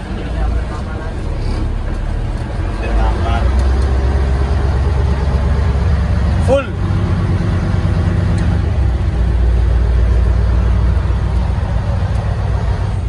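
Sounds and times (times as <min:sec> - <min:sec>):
ferry engine rumbling: 0:00.0 - 0:13.0.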